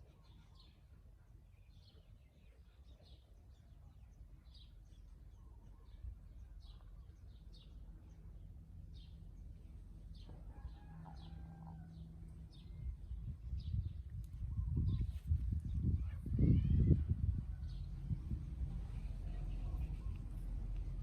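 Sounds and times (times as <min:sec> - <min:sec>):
small birds chirping: 0:00.0 - 0:21.0
low background rumble: 0:03.6 - 0:21.0.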